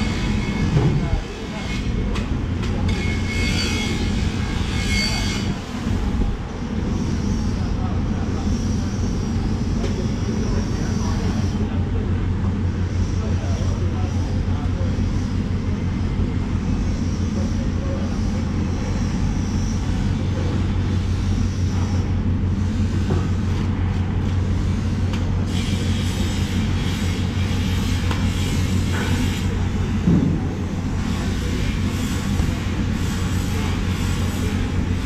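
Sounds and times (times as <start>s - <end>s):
machine rumble: 0.0s - 35.0s.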